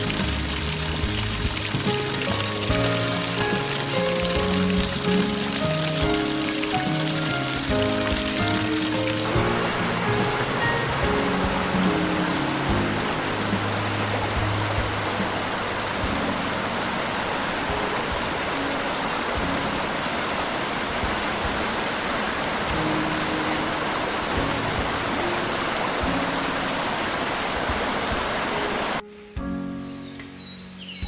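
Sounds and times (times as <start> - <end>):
rushing water hiss: 0.0 - 31.0
soft background music: 0.0 - 31.0.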